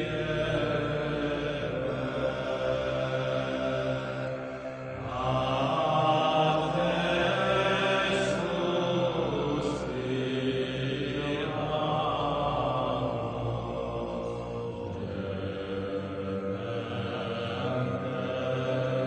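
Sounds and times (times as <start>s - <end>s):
droning background music: 0.0s - 19.0s.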